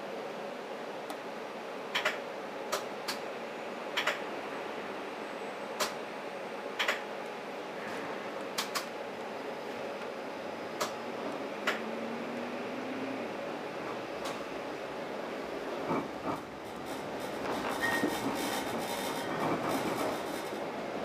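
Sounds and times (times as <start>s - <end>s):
streetcar running hum: 0.0s - 21.0s.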